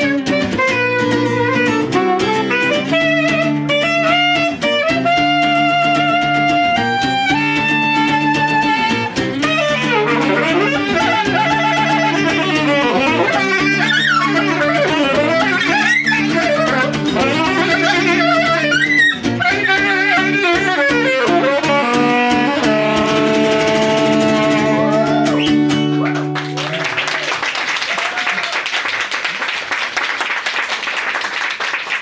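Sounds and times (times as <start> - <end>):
live band playing instrumental: 0.0 - 26.8.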